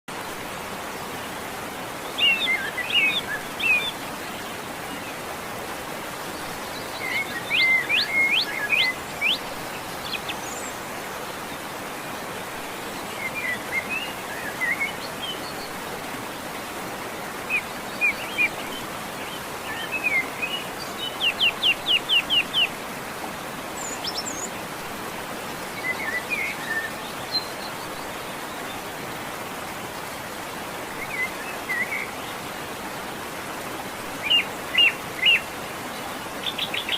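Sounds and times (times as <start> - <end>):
steady background hiss: 0.1 - 36.9
songbirds singing: 0.4 - 36.9.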